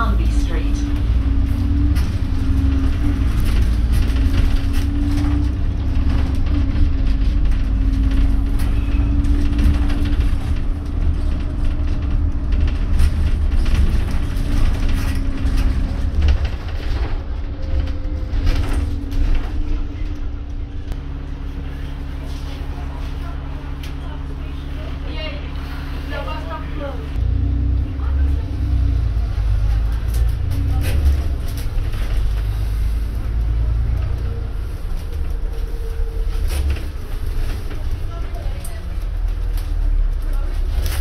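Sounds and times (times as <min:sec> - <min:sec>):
bus body rattles and knocks: 0:00.0 - 0:21.0, 0:28.0 - 0:41.0
bus drivetrain deep rumble: 0:00.0 - 0:41.0.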